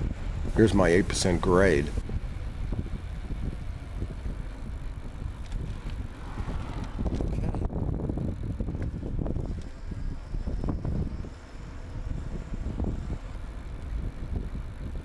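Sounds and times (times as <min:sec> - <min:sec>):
tyre and road noise: 0:00.0 - 0:15.0
wind buffeting microphone: 0:00.0 - 0:15.0.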